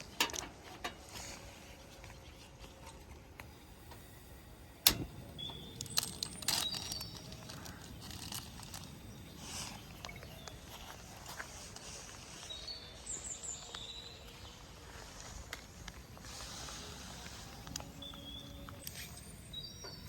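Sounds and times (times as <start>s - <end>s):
faint outdoor background: 0.0s - 20.0s.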